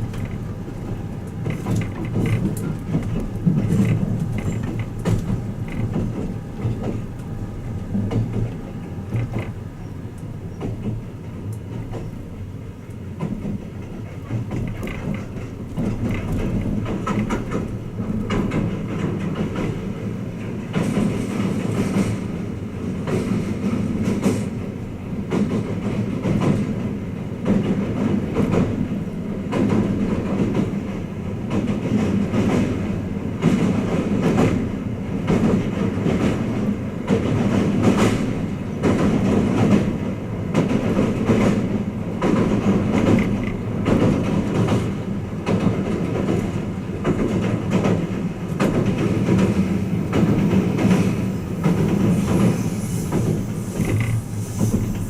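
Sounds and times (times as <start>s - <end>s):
train wheels rumbling on rail: 0.0s - 55.0s
wheels clacking over rail joints: 0.0s - 55.0s.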